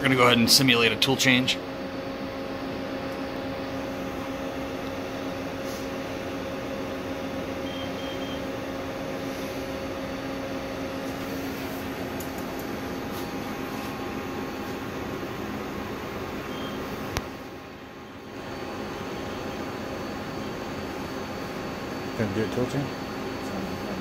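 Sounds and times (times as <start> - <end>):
machine humming with steady tone: 0.0 - 24.0.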